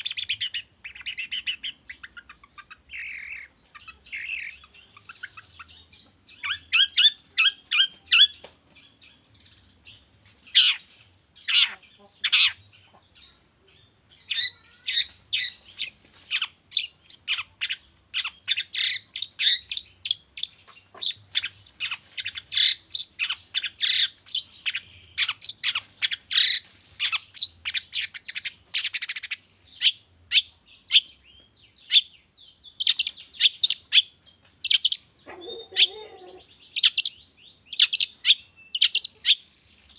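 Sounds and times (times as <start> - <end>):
bird chirping and chattering: 0.0 - 39.9.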